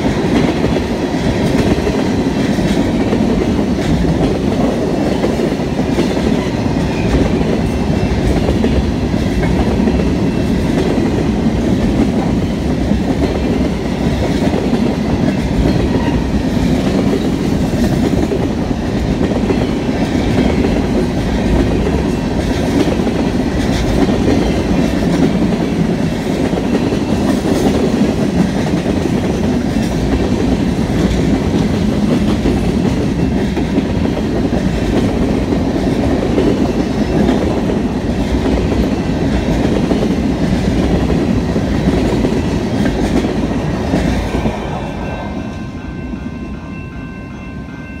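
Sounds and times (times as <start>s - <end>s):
train wheel clacks: 0.0s - 44.8s
freight train wheels rumbling: 0.0s - 48.0s.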